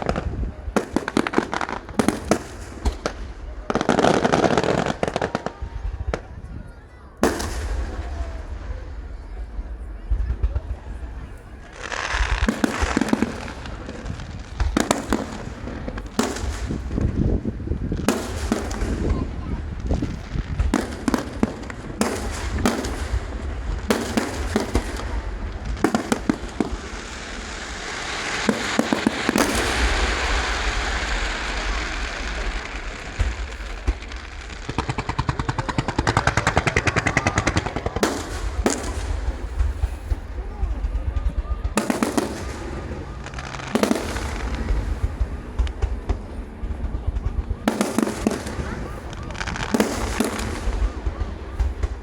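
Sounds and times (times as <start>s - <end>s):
fireworks reports and crackling: 0.0s - 52.0s
low fireworks booms: 0.0s - 52.0s.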